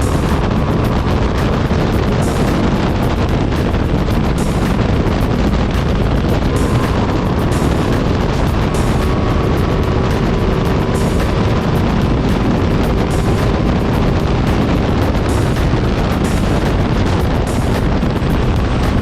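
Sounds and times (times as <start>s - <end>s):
motorcycle engine running: 0.0s - 19.0s
wind noise on microphone: 0.0s - 19.0s.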